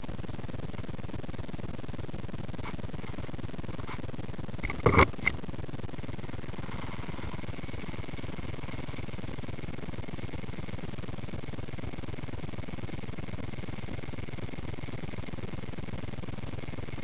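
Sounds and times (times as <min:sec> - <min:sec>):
faint high motor whine: 0:00.0 - 0:17.0
steady low hum: 0:00.0 - 0:17.0.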